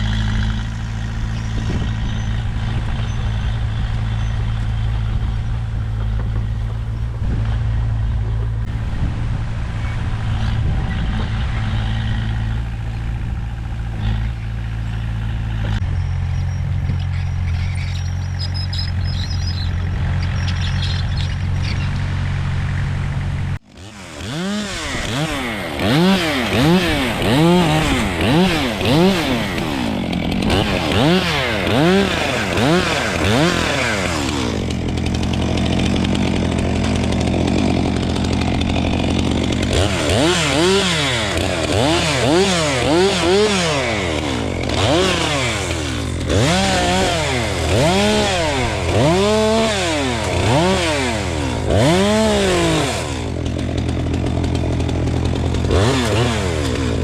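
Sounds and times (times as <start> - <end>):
bulldozer diesel engine running: 0.0 - 57.0
low engine hum: 0.0 - 57.0
small engine revving: 0.0 - 57.0.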